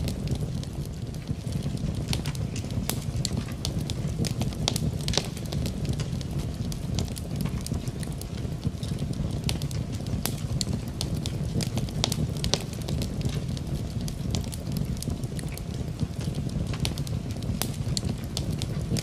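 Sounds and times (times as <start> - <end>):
rain hissing: 0.0 - 19.0
wood fire crackling and popping: 0.0 - 19.0.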